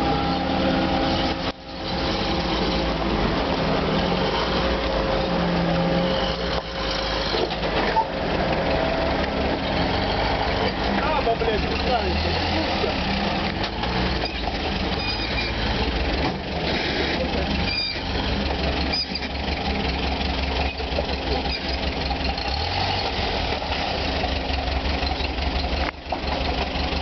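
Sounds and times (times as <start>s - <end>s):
off-road vehicle engine running: 0.0s - 27.0s.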